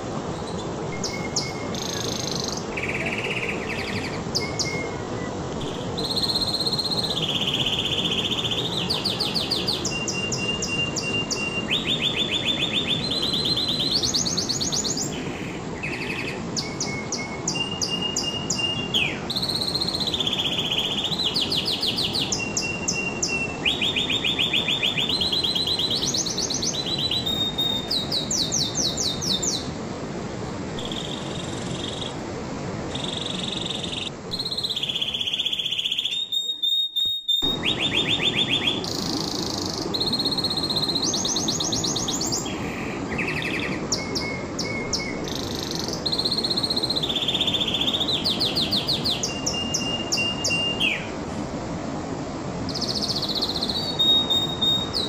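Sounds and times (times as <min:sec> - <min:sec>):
steady low hiss: 0:00.0 - 0:55.0
canary singing trills: 0:00.4 - 0:29.7, 0:32.9 - 0:51.1, 0:52.7 - 0:55.0.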